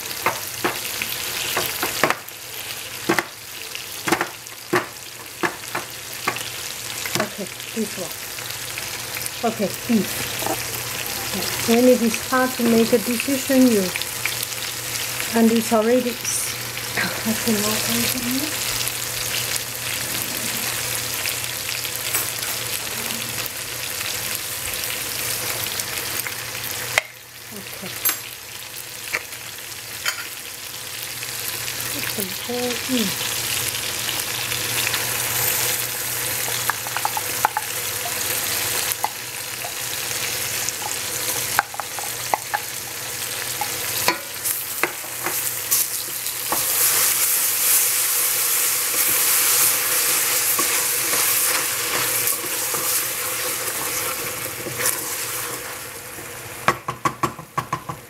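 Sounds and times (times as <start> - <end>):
eggplant sizzling in a pot: 0.0 - 58.0.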